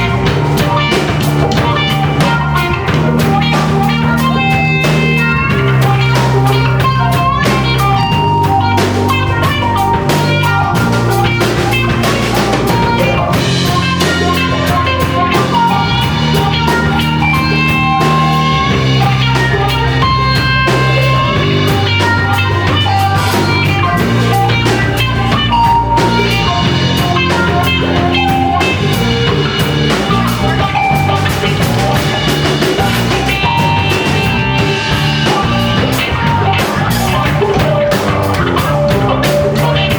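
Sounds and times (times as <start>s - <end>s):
drum kit beat: 0.0s - 39.9s
electric guitar lines: 0.0s - 39.9s
sustained bass notes: 0.0s - 39.9s.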